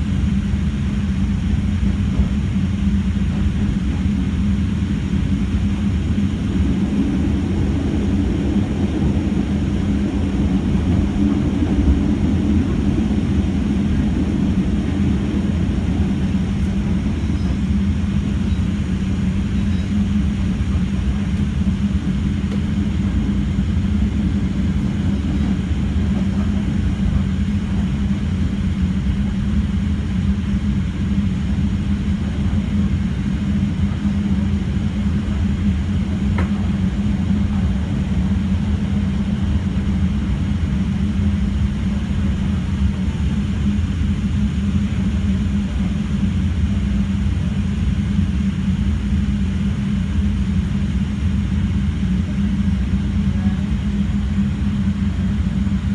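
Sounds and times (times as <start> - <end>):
train rumble and hum: 0.0 - 55.9.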